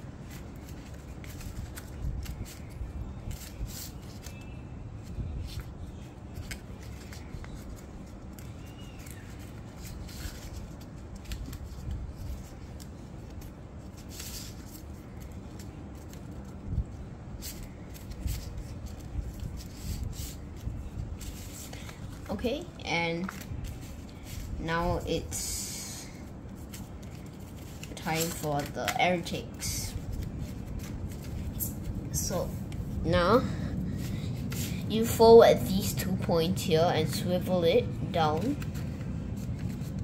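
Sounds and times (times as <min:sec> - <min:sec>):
paper being folded and creased: 0:00.2 - 0:40.0.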